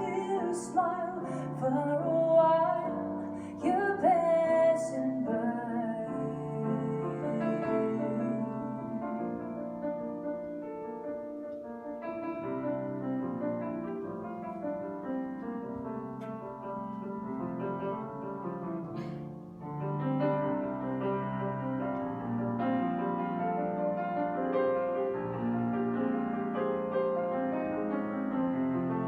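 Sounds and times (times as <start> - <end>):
grand piano playing: 0.0 - 29.0.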